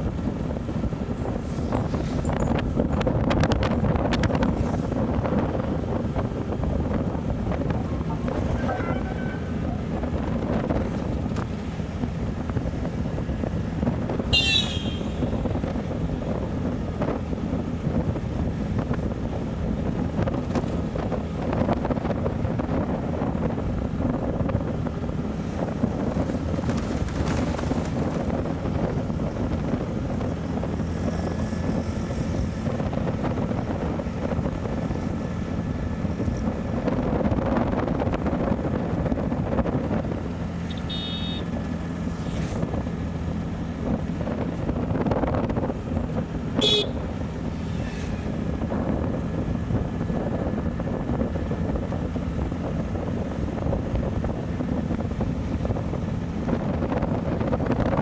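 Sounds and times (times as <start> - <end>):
wind rushing over microphone: 0.0 - 58.0
motorcycle engine running: 5.2 - 58.0.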